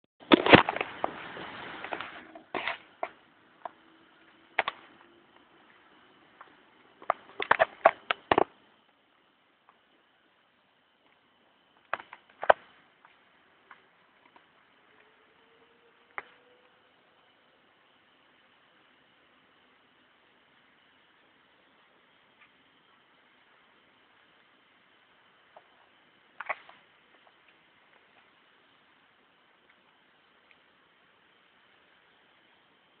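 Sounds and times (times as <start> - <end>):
faint steady low hum: 0.2 - 33.0
cricket trilling: 2.2 - 33.0.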